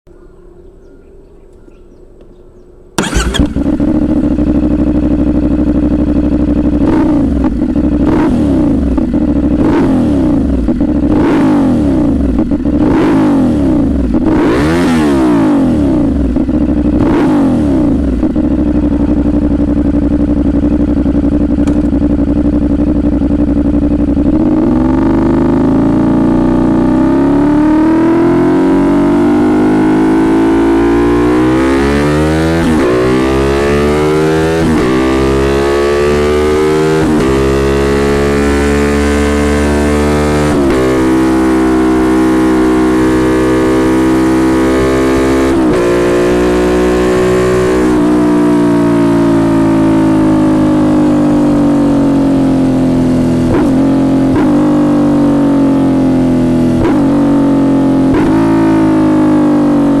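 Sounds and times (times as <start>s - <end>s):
motorcycle engine revving: 2.9s - 60.0s.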